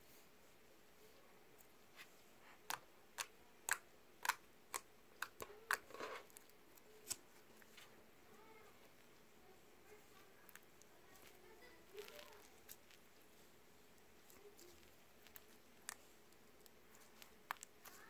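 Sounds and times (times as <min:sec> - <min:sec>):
slime squelch: 0:01.6 - 0:18.0.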